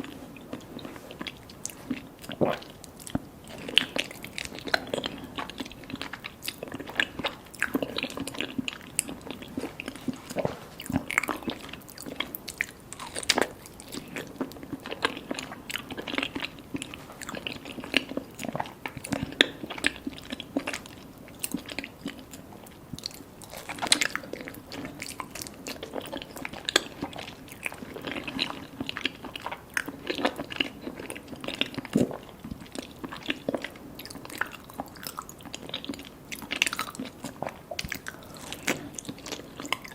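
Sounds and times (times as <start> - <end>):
chewing with wet clicks: 0.0 - 39.9.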